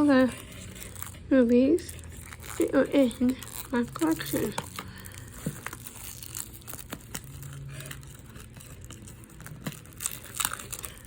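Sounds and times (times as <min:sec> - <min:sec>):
shrink wrap crinkling: 0:00.0 - 0:11.0.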